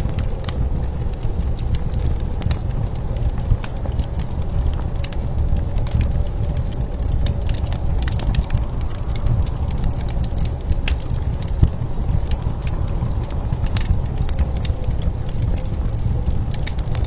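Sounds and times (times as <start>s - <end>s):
blizzard wind rumble: 0.0s - 17.0s
wood fire crackling and popping: 0.0s - 17.0s.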